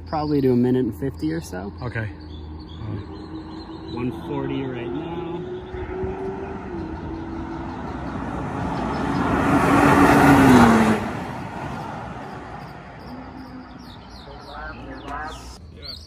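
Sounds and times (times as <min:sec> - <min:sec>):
race car engine passing: 0:01.5 - 0:15.0.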